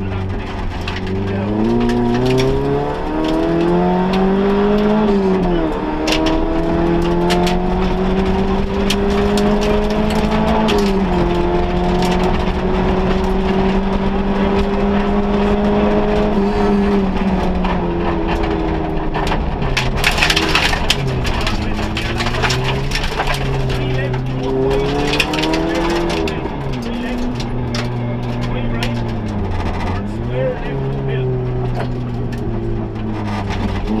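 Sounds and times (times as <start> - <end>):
rally car engine from inside: 0.0 - 34.0
stones ticking against car: 0.2 - 14.0, 17.2 - 34.0.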